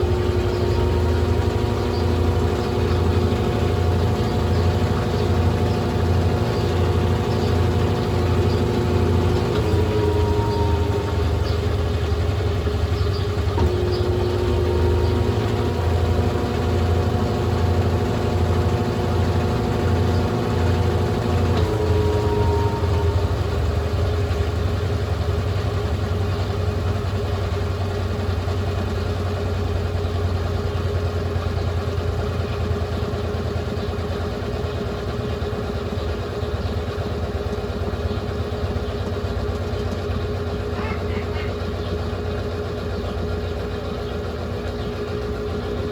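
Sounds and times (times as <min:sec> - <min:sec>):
washing machine held tones: 0:00.0 - 0:45.9
washing machine motor hum: 0:00.0 - 0:45.9.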